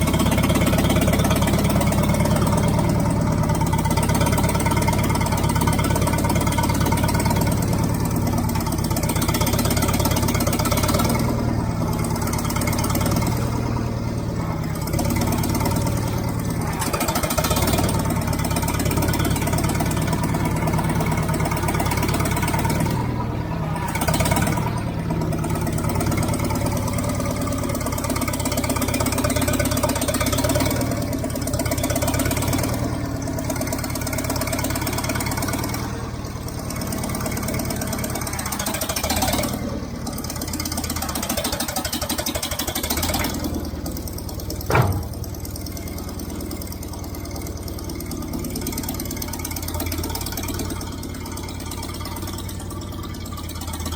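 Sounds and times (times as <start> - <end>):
loader engine running: 0.0 - 53.9.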